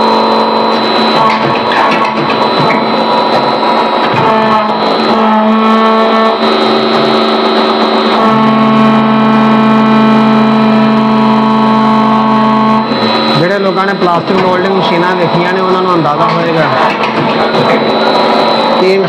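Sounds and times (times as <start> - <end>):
machine hum shifting in tone: 0.0 - 19.0.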